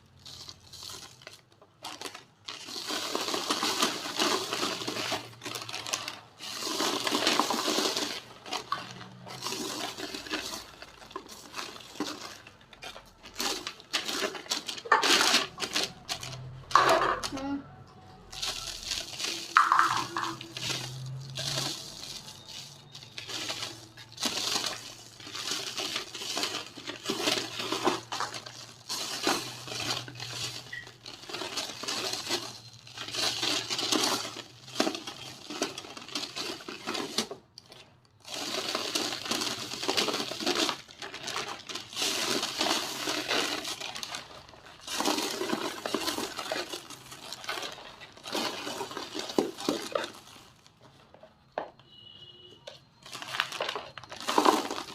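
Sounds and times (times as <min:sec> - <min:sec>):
small pieces clinking: 0:00.0 - 0:17.5, 0:18.1 - 0:50.8, 0:52.7 - 0:54.9
dry cement crumbling: 0:00.0 - 0:52.1, 0:52.7 - 0:54.9.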